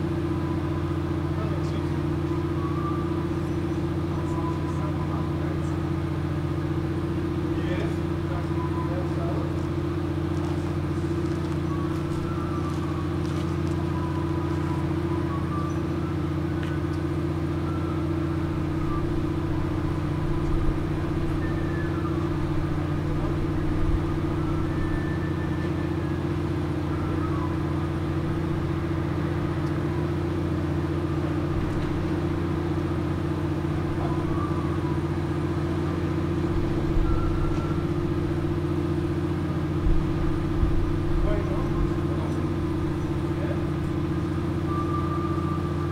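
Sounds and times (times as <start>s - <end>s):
low engine drone: 0.0s - 45.9s.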